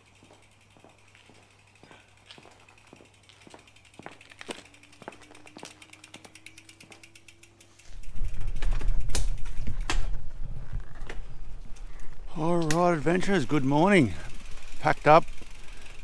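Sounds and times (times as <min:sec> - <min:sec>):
bicycle freewheel ticking: 0:00.0 - 0:16.0.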